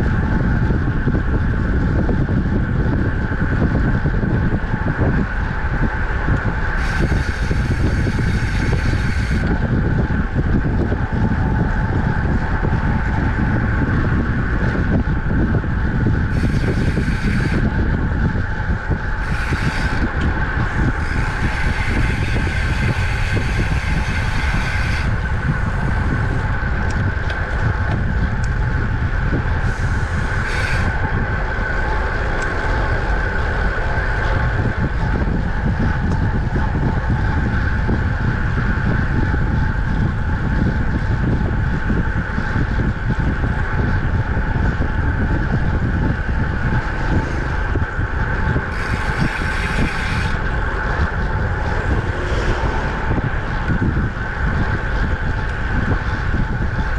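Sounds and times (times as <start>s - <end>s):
tyre and road noise: 0.0s - 56.9s
wind rushing over microphone: 0.0s - 56.9s.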